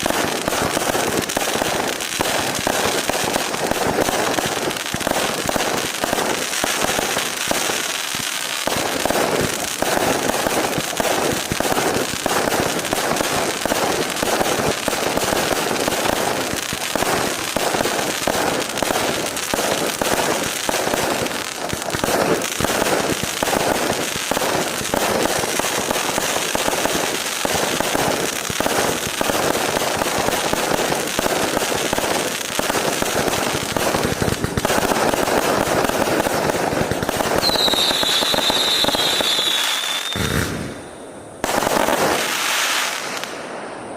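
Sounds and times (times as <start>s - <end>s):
fireworks popping and crackling: 0.0s - 43.9s.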